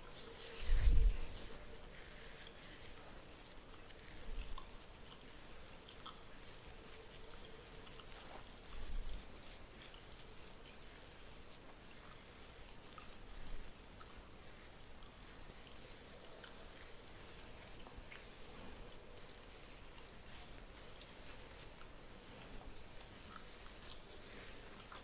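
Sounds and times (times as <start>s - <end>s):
fingernails scratching beard: 0.0s - 25.0s.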